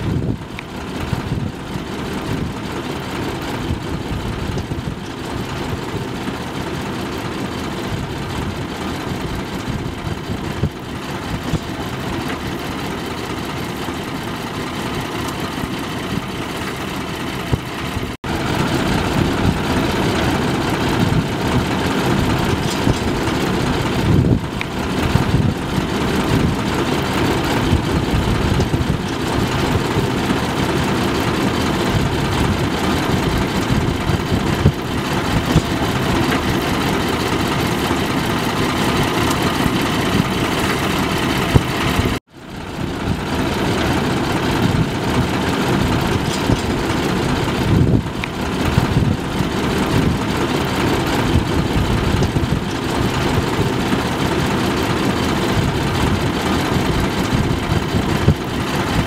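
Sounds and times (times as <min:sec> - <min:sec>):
combine harvester engines droning: 0:00.0 - 0:59.0.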